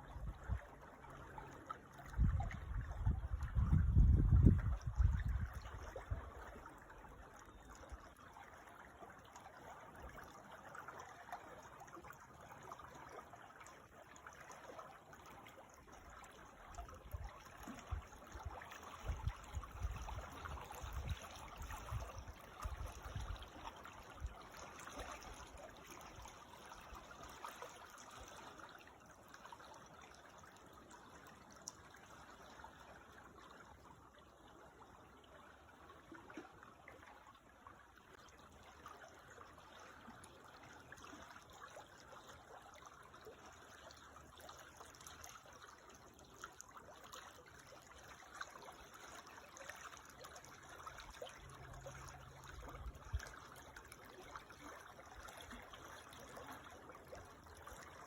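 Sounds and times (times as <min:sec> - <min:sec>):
creek water babbling: 0:00.0 - 0:58.0.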